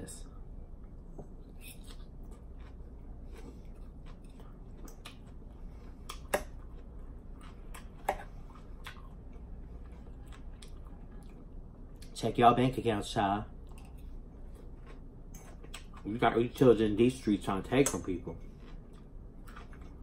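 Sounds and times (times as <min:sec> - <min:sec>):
chewing salad: 0:00.8 - 0:12.2, 0:13.6 - 0:20.0.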